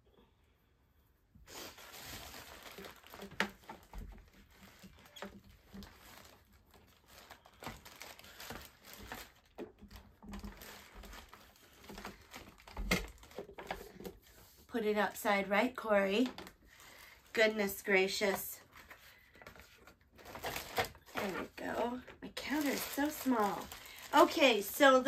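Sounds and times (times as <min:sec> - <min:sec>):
handling rustling: 0:01.7 - 0:14.7, 0:16.0 - 0:25.0.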